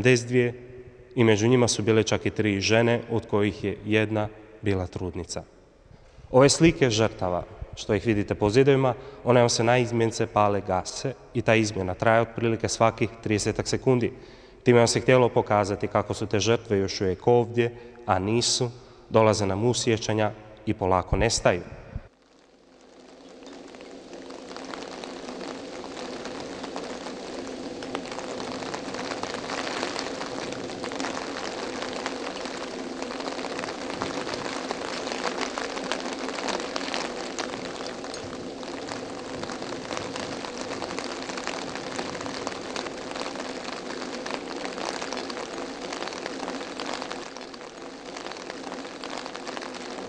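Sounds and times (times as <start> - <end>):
steady rain falling: 0.0 - 20.3, 21.2 - 50.0.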